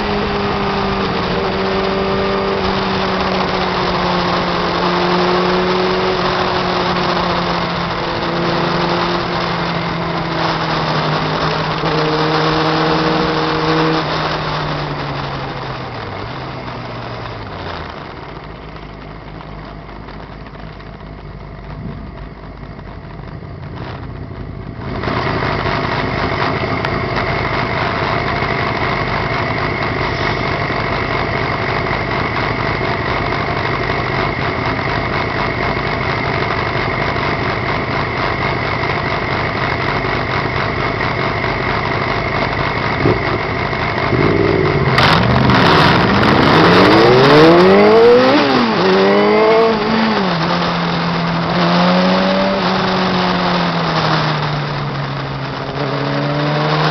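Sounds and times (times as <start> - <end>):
motorcycle engine revving: 0.0 - 19.4, 23.6 - 56.9.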